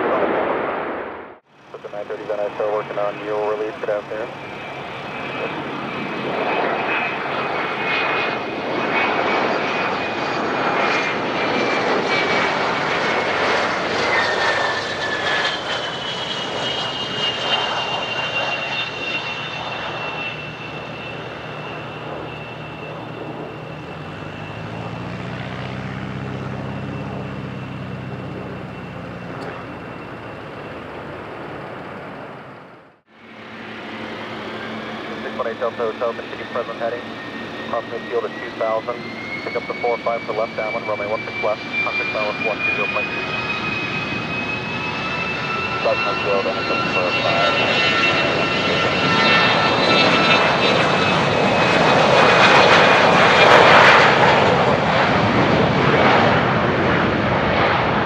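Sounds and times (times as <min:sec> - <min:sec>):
high turbine whine: 0:00.0 - 0:58.0
jet roar passing by: 0:00.0 - 0:58.0.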